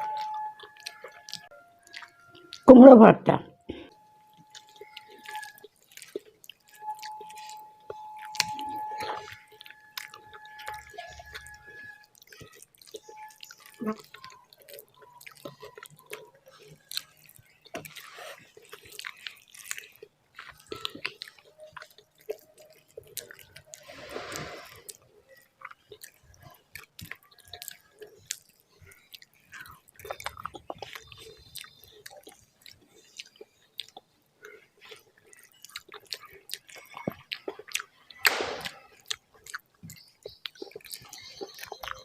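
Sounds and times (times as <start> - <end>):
chewing with wet mouth clicks: 0.0 - 2.7, 3.7 - 42.0.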